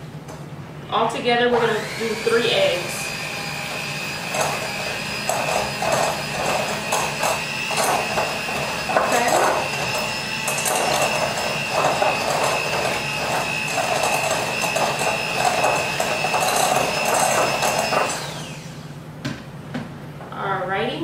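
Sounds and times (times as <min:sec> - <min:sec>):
electric hand mixer whining: 0:01.5 - 0:19.0.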